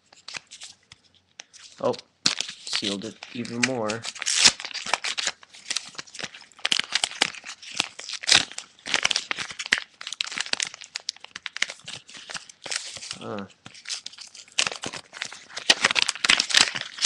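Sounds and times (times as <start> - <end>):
envelope paper ripping: 1.6 - 17.0.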